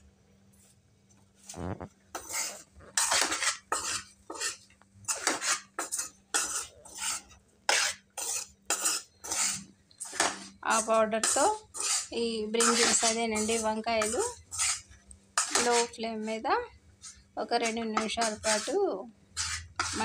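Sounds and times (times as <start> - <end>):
spatula scraping metal pan: 2.1 - 16.4, 17.0 - 20.0.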